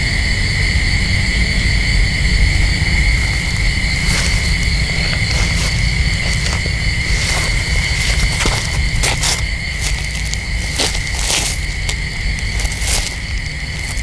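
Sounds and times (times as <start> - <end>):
continuous low rumble: 0.0 - 14.0
high-pitched insect chirring: 0.9 - 14.0.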